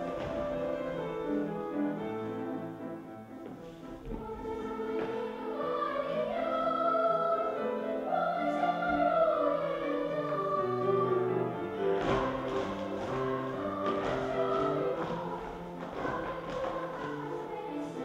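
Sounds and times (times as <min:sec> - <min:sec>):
children's choir singing: 0:00.0 - 0:18.0.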